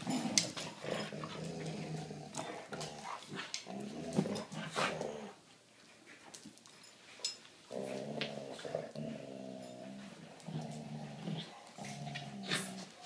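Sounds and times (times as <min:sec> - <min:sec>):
dogs growling in play: 0:00.0 - 0:05.4, 0:07.7 - 0:13.0.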